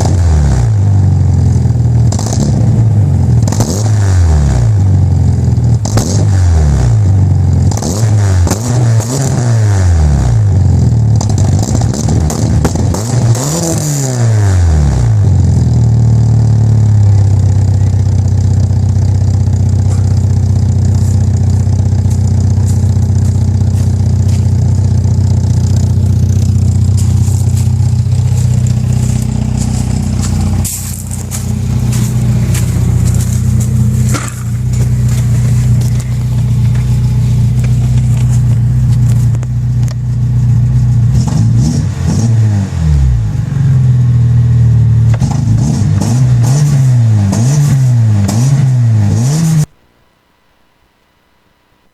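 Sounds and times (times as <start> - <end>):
car engine and exhaust: 0.0 - 49.8.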